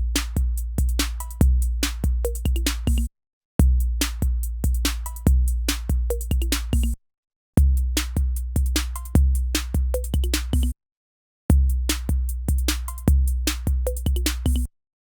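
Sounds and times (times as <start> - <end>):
drum machine beat: 0.0 - 7.0, 7.6 - 10.7, 11.5 - 14.7.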